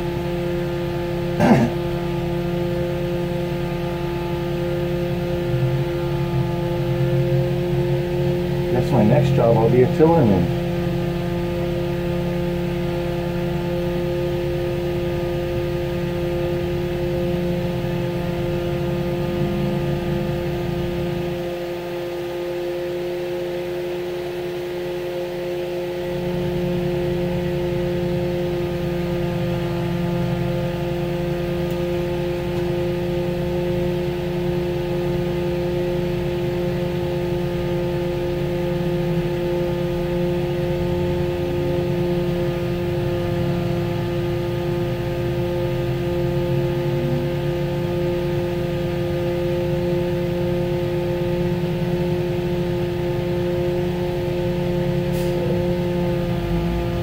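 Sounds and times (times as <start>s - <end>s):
engine and road rumble: 0.0s - 57.0s
two-tone hum: 0.0s - 57.0s.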